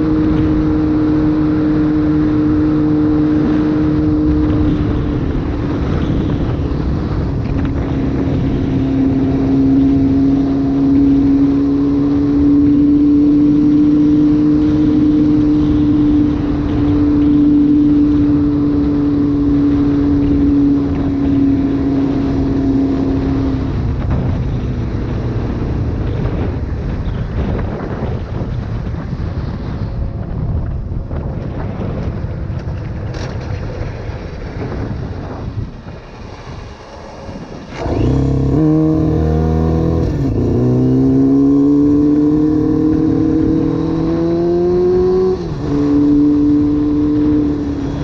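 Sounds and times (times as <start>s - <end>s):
motorcycle engine cruising: 0.0s - 48.0s
wind rushing: 0.0s - 48.0s.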